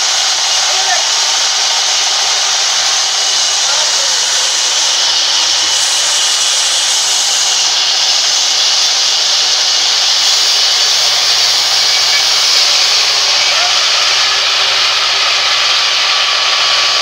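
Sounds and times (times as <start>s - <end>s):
band saw cutting log: 0.0s - 17.0s.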